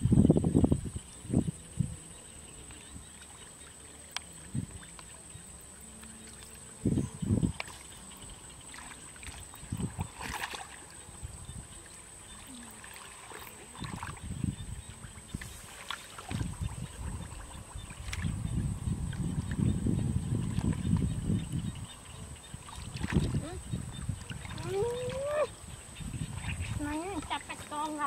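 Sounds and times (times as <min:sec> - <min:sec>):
splashing in muddy water: 0:02.7 - 0:21.2, 0:22.5 - 0:28.0.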